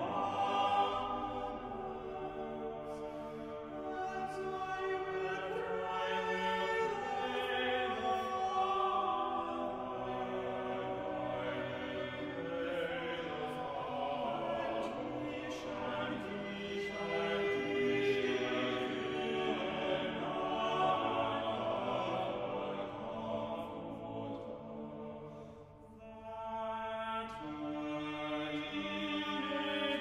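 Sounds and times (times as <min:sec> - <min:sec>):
choir singing slow chords: 0:00.0 - 0:30.0.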